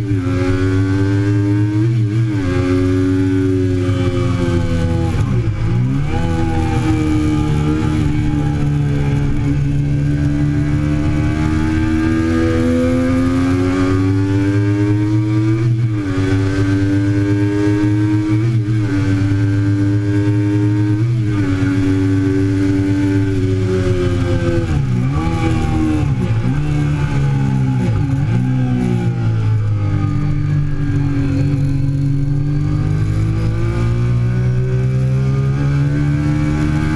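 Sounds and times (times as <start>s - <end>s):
motorcycle engine at racing speed: 0.0s - 36.9s.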